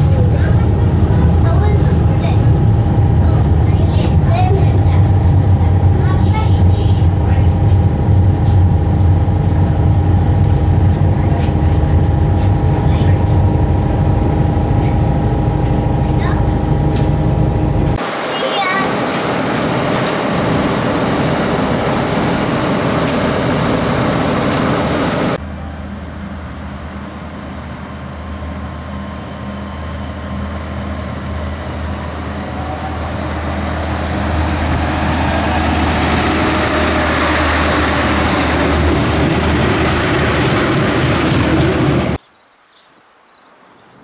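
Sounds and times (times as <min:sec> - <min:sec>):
diesel railcar engine hum: 0:00.0 - 0:42.2
diesel railcar passing: 0:00.0 - 0:42.2.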